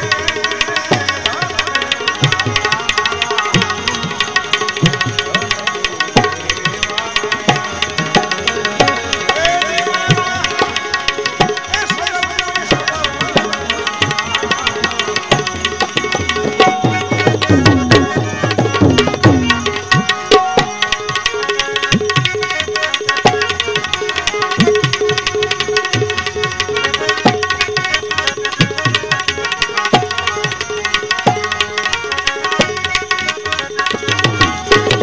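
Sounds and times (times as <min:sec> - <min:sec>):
harmonium chords: 0:00.0 - 0:35.0
tabla drumming: 0:00.0 - 0:35.0.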